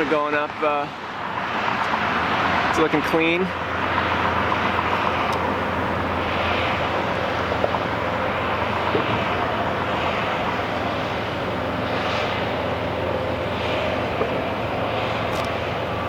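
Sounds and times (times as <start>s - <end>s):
vehicle engine rumble with hiss: 0.0s - 16.0s.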